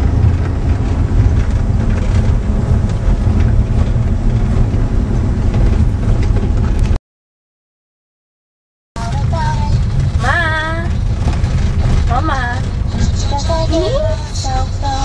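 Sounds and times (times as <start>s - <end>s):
vehicle body rattling and clicking: 0.0s - 7.0s, 9.0s - 15.0s
vehicle cabin rumble: 0.0s - 7.0s, 9.0s - 15.0s.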